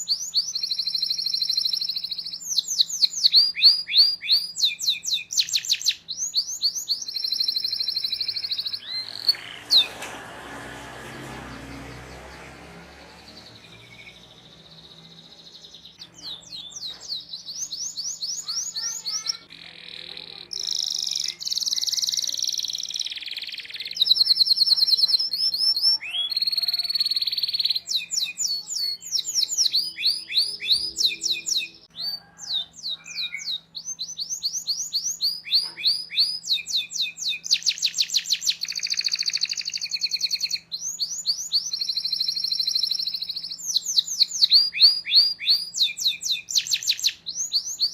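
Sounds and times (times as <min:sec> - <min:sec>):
canary singing trills: 0:00.0 - 0:10.1, 0:10.7 - 0:47.9.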